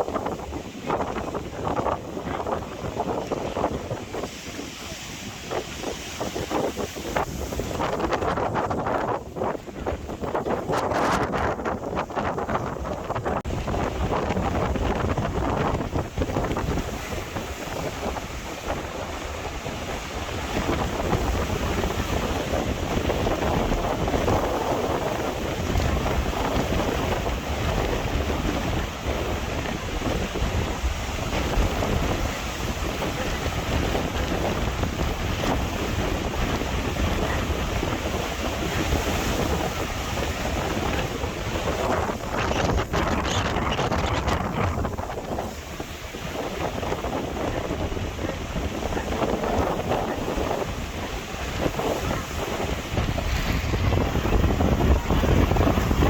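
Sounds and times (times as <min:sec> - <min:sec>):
sea waves crashing: 0:00.0 - 0:56.0
wind buffeting microphone: 0:00.0 - 0:56.0.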